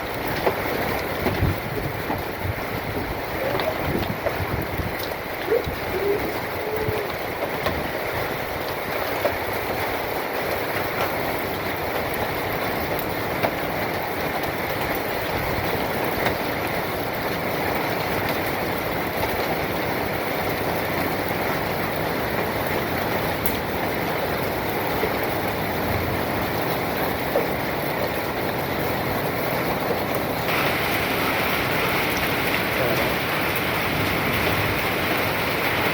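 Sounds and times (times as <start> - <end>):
hail pelting: 0.0 - 35.9
hailstones knocking: 0.0 - 35.9.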